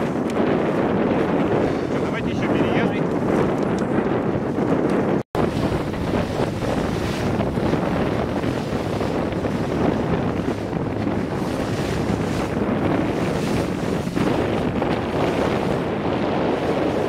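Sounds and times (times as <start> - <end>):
boat engine rumble: 0.0 - 17.0
water rushing past hull: 0.0 - 17.0
wind buffeting microphone: 0.0 - 17.0.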